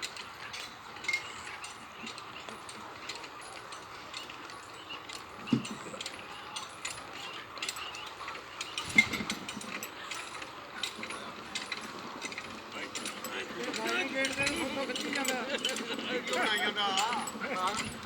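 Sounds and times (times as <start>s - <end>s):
ratchet mechanism clicking: 0.0s - 18.0s.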